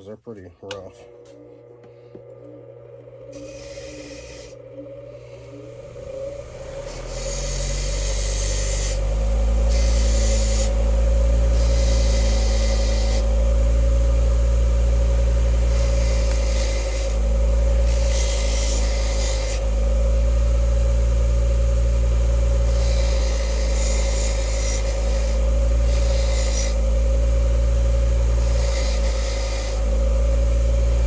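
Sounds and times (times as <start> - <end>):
motor-driven wire wheel spinning: 1.0 - 31.0.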